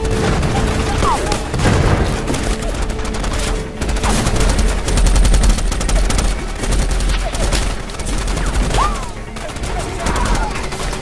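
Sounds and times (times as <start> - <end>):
heavy automatic gunfire: 0.0 - 11.0.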